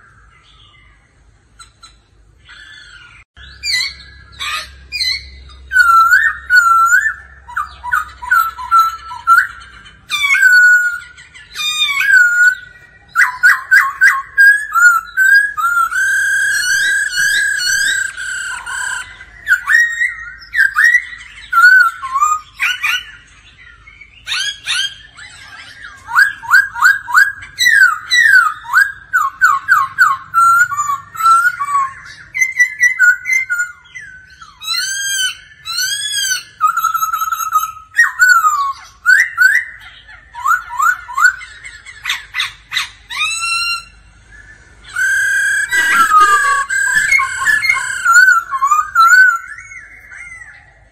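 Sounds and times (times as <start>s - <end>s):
bird singing whistled notes: 0.0s - 50.9s.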